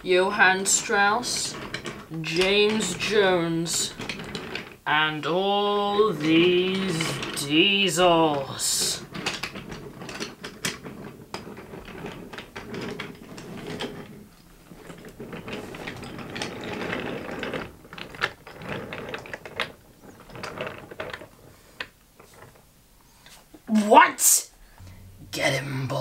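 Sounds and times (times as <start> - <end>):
toy trains clicking and rattling: 0.0 - 23.4.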